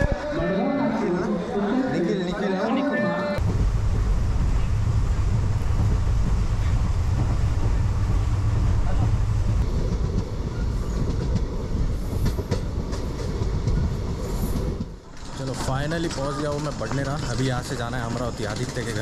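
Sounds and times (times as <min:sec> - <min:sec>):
train wheels rumbling on track: 0:03.4 - 0:19.0
wheels clacking over rail joints: 0:03.4 - 0:19.0.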